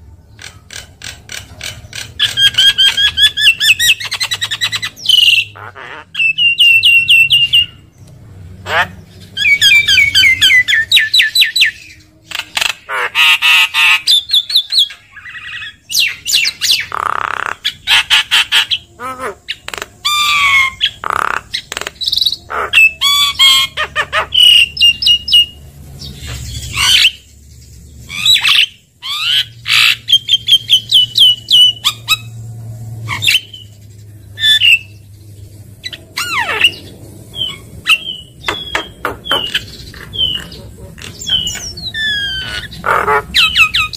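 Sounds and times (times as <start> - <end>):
myna singing and calling: 0.2 - 43.9.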